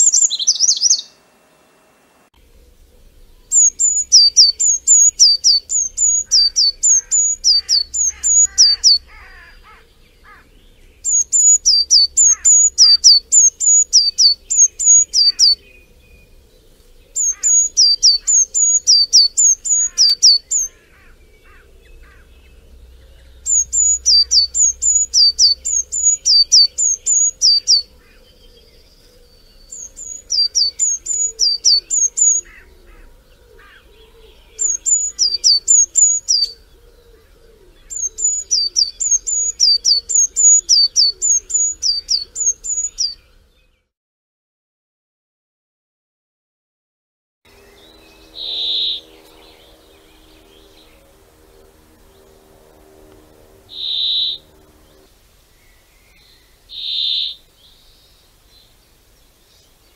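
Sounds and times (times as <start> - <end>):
songbird singing: 0.0 - 1.8, 2.4 - 43.9, 47.5 - 59.9
faint calls of other birds: 2.4 - 43.9, 47.5 - 59.9.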